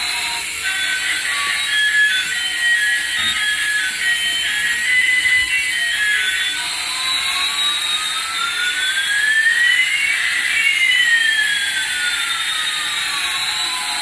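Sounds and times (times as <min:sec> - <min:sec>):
gliding whining tones: 0:00.0 - 0:14.0.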